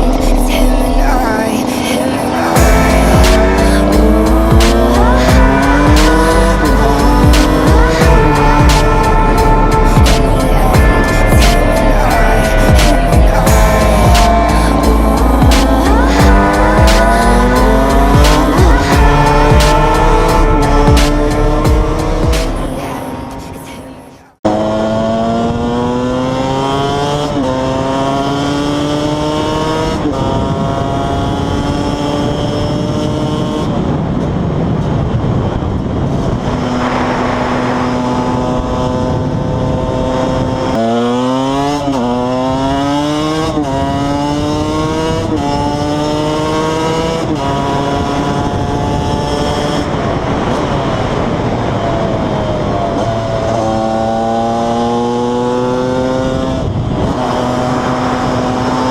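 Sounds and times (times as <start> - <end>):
two-stroke engine revving through gears: 0.0 - 23.6, 24.4 - 33.8, 36.3 - 58.9.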